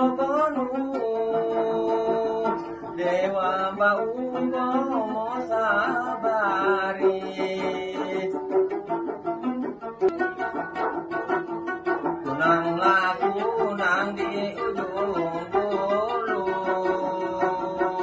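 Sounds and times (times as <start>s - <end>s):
man singing: 0.0s - 8.8s, 12.2s - 18.0s
plucked lute melody: 0.0s - 18.0s.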